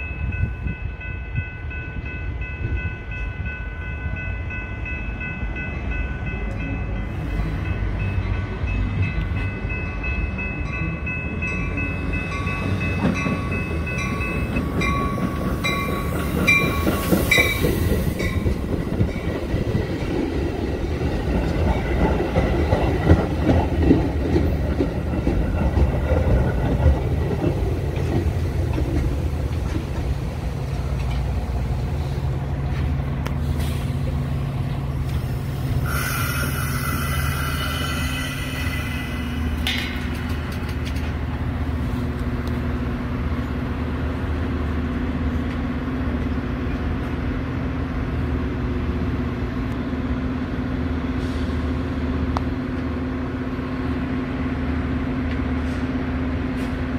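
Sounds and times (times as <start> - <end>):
train humming: 0.0 - 56.9
train wheels rumbling and clattering: 0.0 - 56.9.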